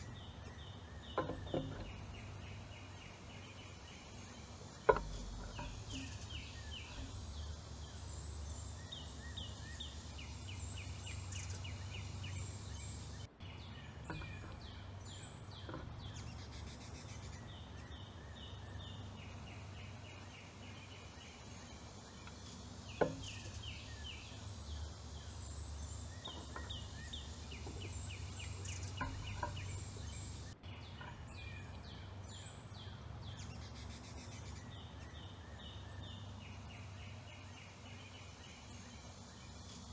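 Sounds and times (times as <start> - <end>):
songbirds chirping: 0.0 - 39.9
steady low hum: 0.0 - 39.9.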